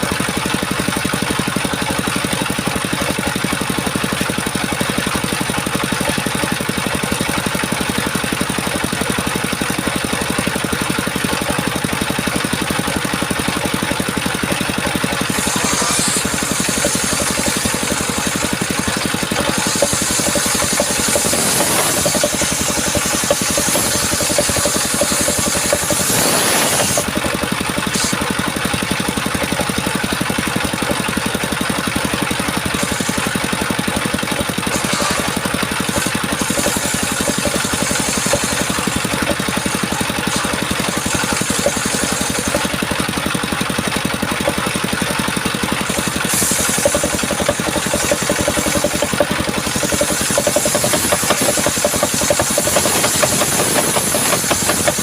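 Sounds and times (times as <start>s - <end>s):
saw blade cutting wood: 0.0s - 29.8s, 30.6s - 55.0s
engine running: 0.0s - 55.0s.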